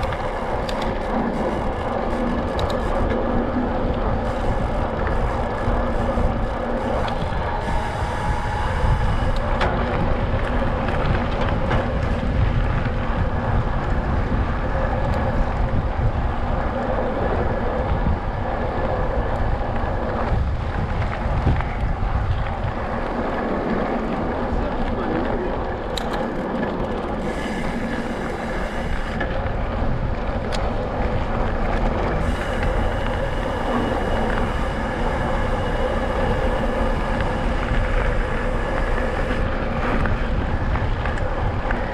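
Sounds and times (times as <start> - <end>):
bike tyre rumble and rattle: 0.0 - 41.9
wind on microphone: 0.0 - 41.9.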